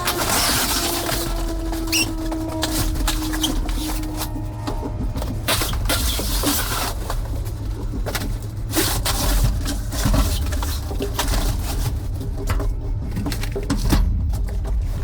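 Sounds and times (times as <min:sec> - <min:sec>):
boxes knocking and scraping: 0:00.0 - 0:15.0
low rumble: 0:00.0 - 0:15.0.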